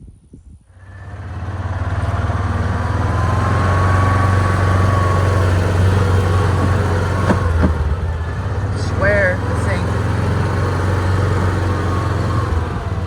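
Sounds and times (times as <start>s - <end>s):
engine running with deep hum: 0.7s - 13.0s.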